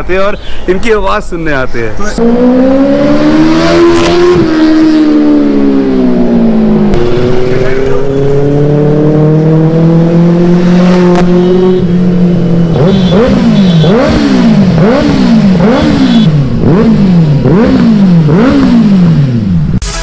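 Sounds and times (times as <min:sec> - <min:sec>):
motorcycle engine revving: 0:02.2 - 0:19.8.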